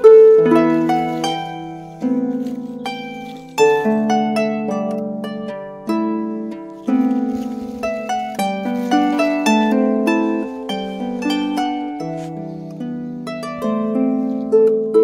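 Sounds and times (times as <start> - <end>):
harp playing melody: 0.0 - 15.0.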